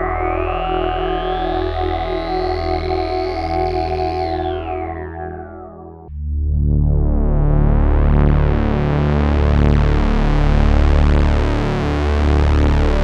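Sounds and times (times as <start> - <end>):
synthesizer low pad: 0.0 - 13.0.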